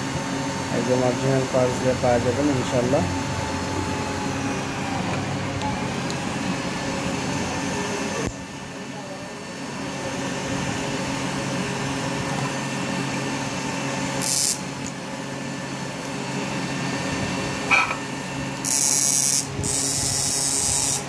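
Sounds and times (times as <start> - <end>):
fan and transformer humming: 0.0 - 21.0.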